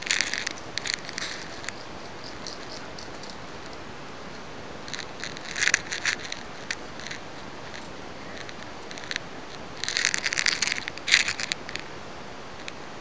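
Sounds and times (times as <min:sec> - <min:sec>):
camera handling rustles and clicks: 0:00.0 - 0:03.8, 0:04.9 - 0:11.8
camera handling hiss: 0:00.0 - 0:11.9.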